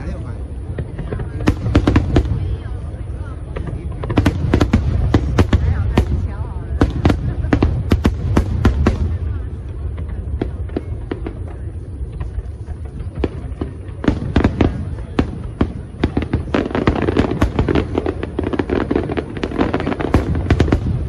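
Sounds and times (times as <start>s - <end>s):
fireworks cracking and banging: 0.0s - 21.0s.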